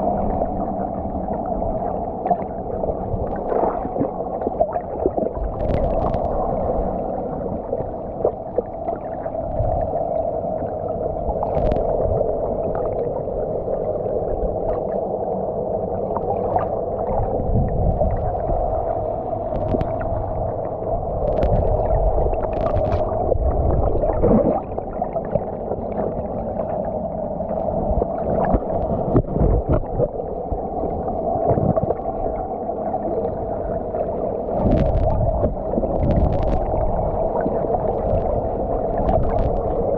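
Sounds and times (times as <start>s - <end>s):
low water rumbling: 0.0s - 39.9s
muffled underwater drone: 0.0s - 39.9s.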